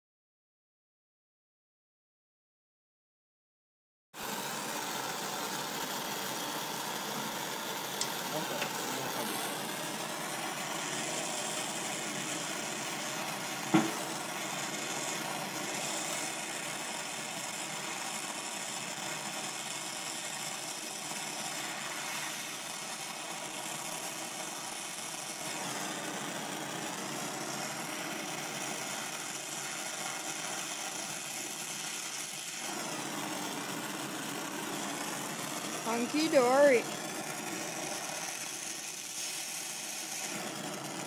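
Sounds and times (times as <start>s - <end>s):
torch flame hissing: 4.2s - 41.0s.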